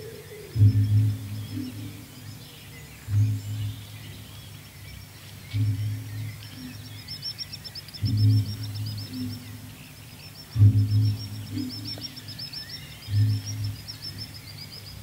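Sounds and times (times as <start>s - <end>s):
small birds singing: 0.0s - 15.0s
low deep hum: 0.4s - 7.1s, 7.9s - 14.6s.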